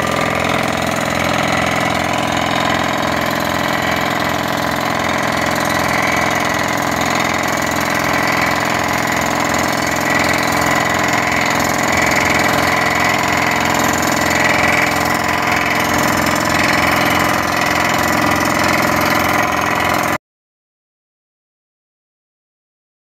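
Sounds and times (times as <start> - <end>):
drilling rig engine: 0.0 - 20.2.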